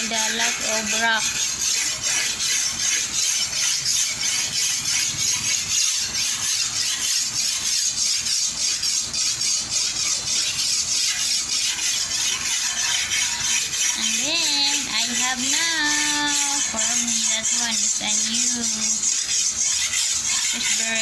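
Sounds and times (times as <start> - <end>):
blade rasping on sharpener: 0.0 - 21.0.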